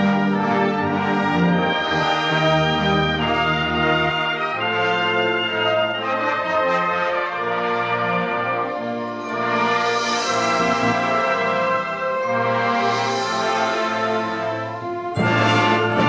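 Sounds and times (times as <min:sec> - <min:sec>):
concert band playing brass chords: 0:00.0 - 0:16.0.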